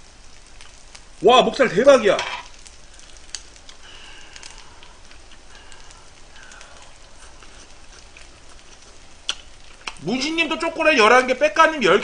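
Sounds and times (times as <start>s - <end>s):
fat crackling and spitting: 0.0s - 12.0s
meat sizzling on a grill plate: 0.0s - 12.0s.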